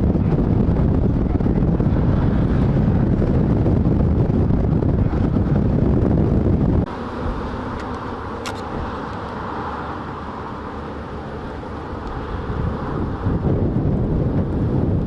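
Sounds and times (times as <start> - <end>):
engine-like drone: 0.0 - 15.0
wind buffeting microphone: 0.0 - 15.0.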